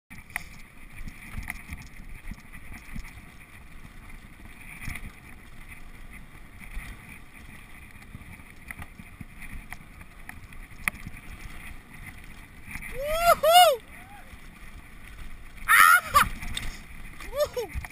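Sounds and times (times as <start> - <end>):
wind buffeting microphone: 0.2 - 17.9.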